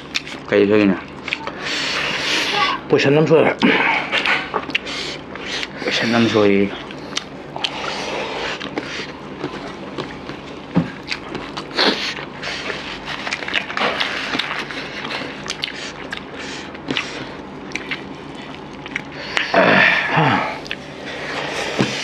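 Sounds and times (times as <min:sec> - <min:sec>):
chewing and mouth noises: 0:00.0 - 0:02.6, 0:03.5 - 0:19.6, 0:20.5 - 0:22.0.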